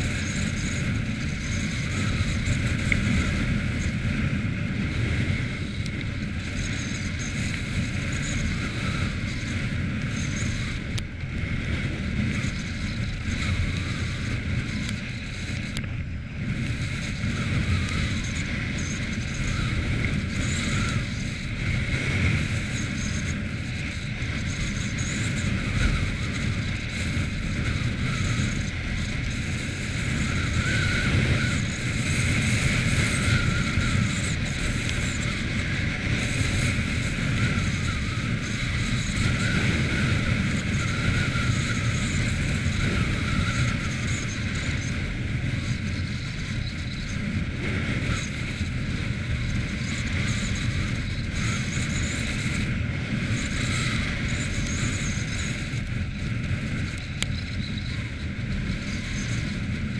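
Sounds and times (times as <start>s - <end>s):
quad bike engine running: 0.0s - 59.9s
wind noise on microphone: 0.0s - 59.9s.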